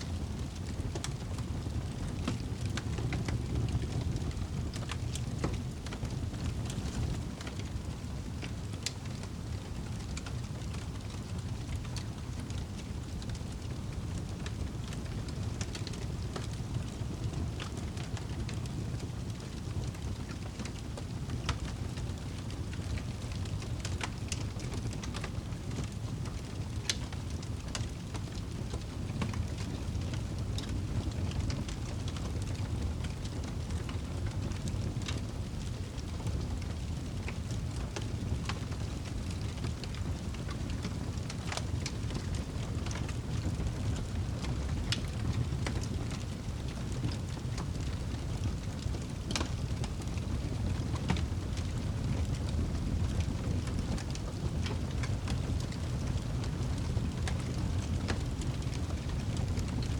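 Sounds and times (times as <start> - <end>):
campfire crackling and popping: 0.2 - 59.9.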